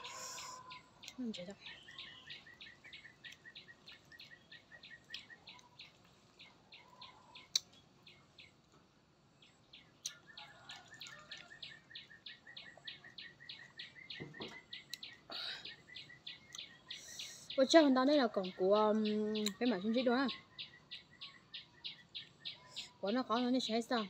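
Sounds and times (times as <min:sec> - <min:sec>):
small bird chirping: 0:00.0 - 0:24.0.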